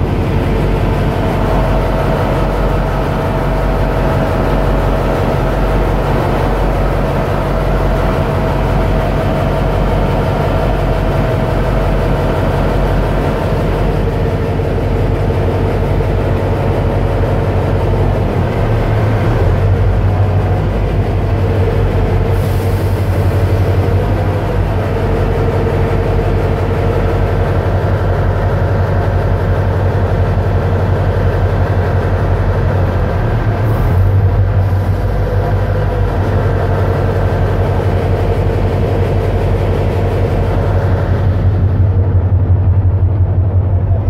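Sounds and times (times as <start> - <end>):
boat diesel engine droning: 0.0 - 44.0.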